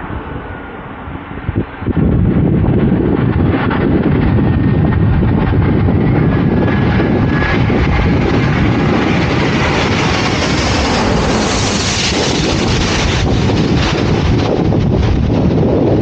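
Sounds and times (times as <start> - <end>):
plane passing low overhead: 0.0 - 16.0.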